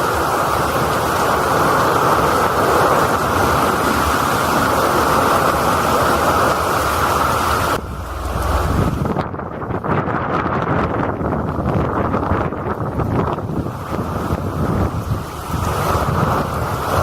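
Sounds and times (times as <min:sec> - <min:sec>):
heavy rain and running water: 0:00.0 - 0:17.0
wind rumble on microphone: 0:00.0 - 0:17.0.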